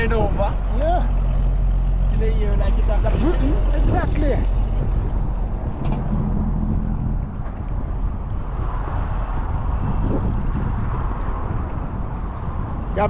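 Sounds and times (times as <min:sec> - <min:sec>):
road traffic rumble: 0:00.0 - 0:13.0
wind buffeting microphone: 0:00.0 - 0:13.0.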